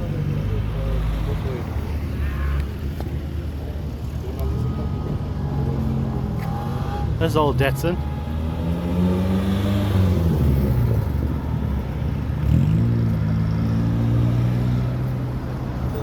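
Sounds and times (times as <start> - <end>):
car engine under throttle: 2.6 - 15.9.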